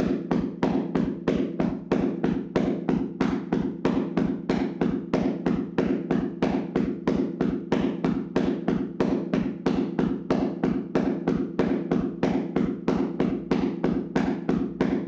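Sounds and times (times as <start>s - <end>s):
hands slapping a body: 0.0s - 15.0s.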